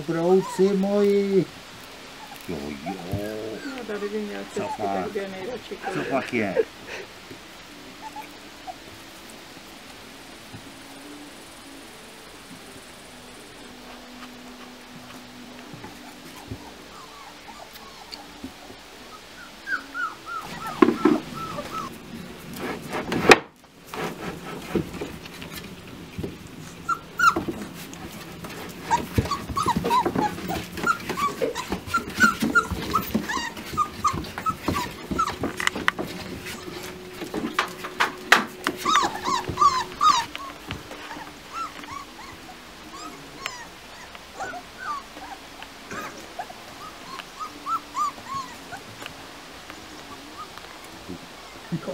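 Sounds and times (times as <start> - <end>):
puppies whimpering and yipping: 0.0 - 23.1, 24.2 - 51.9.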